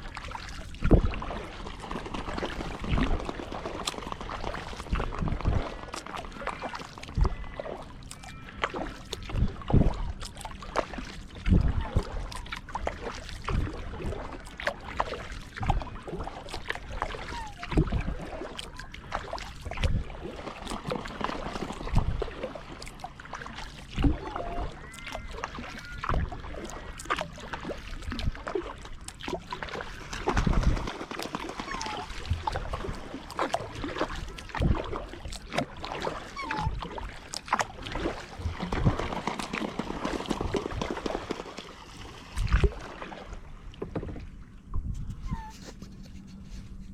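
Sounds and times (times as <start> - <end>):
paddle splashing in water: 0.0 - 46.6
water sloshing: 0.0 - 46.9.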